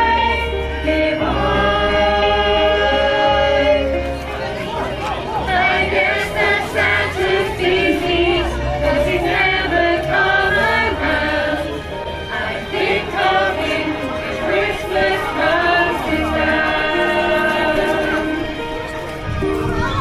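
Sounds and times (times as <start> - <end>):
group singing a carol: 0.0 - 19.2
accompanying music: 0.0 - 20.0.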